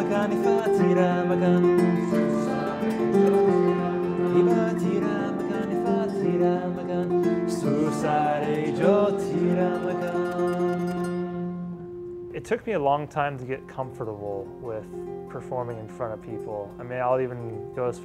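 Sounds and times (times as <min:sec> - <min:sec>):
kora harp melody: 0:00.0 - 0:18.0.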